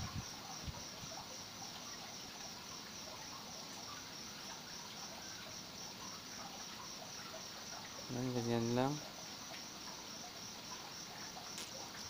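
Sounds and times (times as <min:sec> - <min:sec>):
insect chirping trill: 0:00.0 - 0:12.0.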